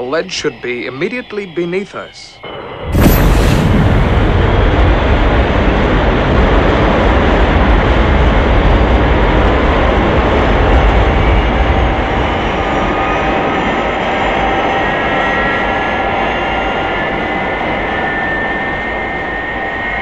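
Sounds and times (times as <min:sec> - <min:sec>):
jet engines roaring with rumble: 0:02.5 - 0:20.0.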